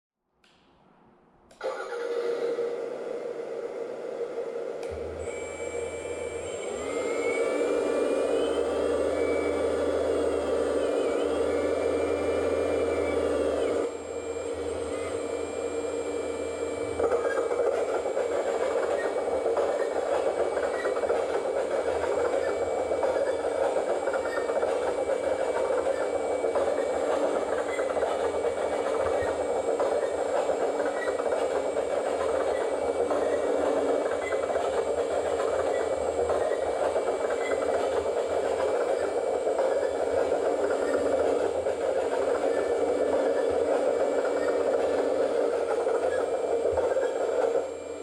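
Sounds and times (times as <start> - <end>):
electric hydraulic pump hissing: 4.9 - 48.0.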